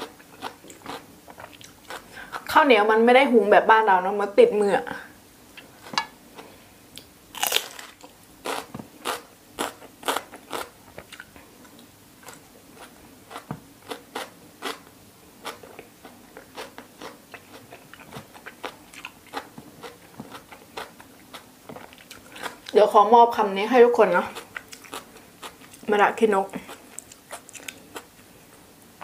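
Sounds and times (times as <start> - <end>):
chewing crunchy vegetables: 0.0 - 2.5, 5.6 - 22.8, 24.2 - 28.3.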